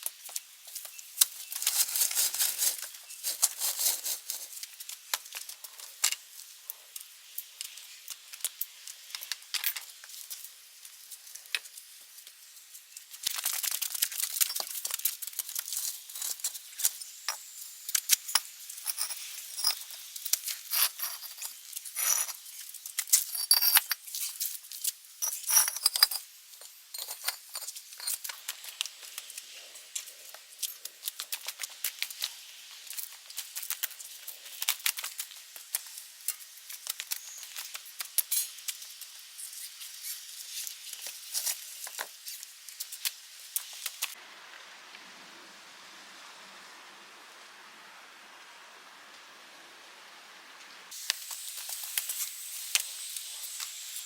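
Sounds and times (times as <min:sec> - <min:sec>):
rustling and crinkling of plants: 0:00.0 - 0:25.3, 0:26.1 - 0:44.2.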